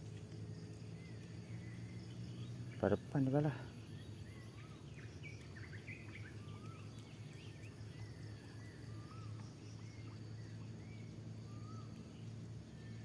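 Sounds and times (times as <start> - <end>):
high insect drone: 0.0 - 13.0
birds chirping: 0.2 - 13.0.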